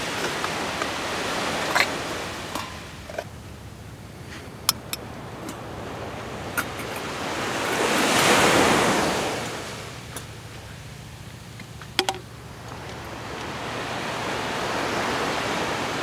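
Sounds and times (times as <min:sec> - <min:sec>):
wave washing on shore: 0:00.0 - 0:16.0.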